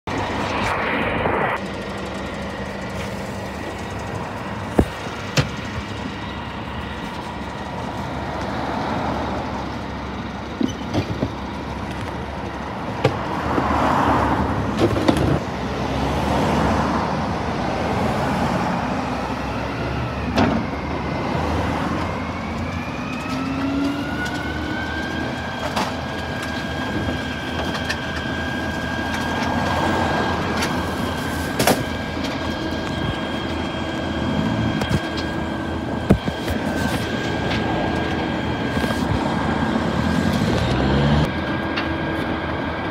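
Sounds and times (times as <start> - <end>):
hydraulic lifting gear whine: 0.1 - 42.9
refuse truck engine running: 0.1 - 42.9.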